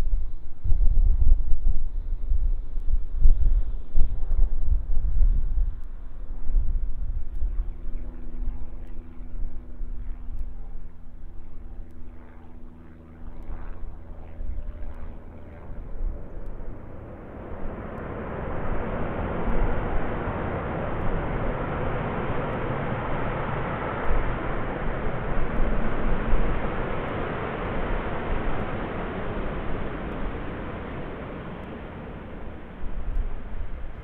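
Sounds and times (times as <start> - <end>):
jet engine whine: 0.0 - 34.0
jet engines roaring: 5.6 - 34.0.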